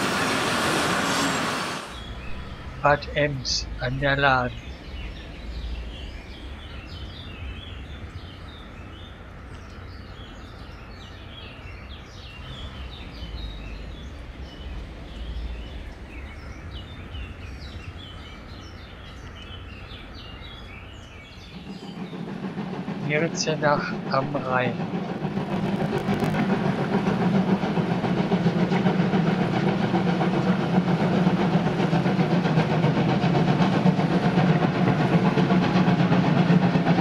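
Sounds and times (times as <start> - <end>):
low outdoor rumble: 0.0 - 37.0
small birds chirping: 1.9 - 37.0.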